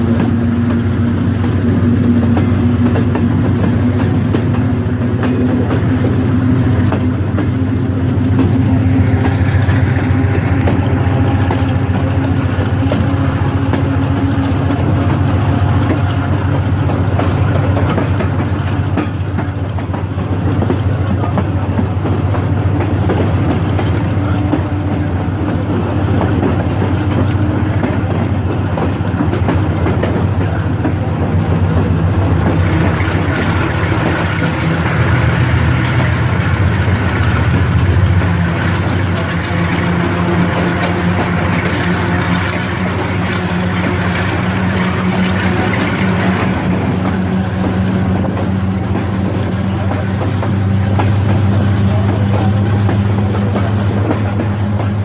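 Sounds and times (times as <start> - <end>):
train rumbling along track: 0.0 - 55.0
wheels clicking over rail joints: 0.0 - 55.0.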